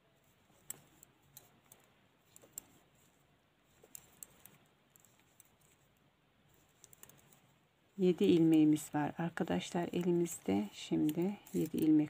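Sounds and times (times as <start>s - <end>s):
knitting needles clicking: 0.2s - 12.0s.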